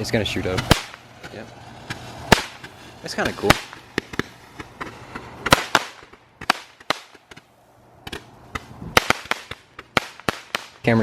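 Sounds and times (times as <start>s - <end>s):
fireworks cracks and pops: 0.0s - 11.0s.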